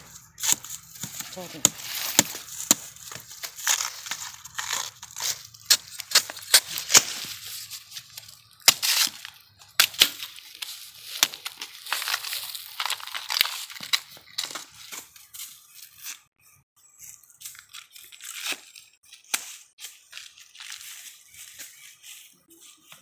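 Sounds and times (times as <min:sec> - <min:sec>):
bamboo husks tearing and snapping: 0:00.0 - 0:15.1, 0:17.4 - 0:21.8.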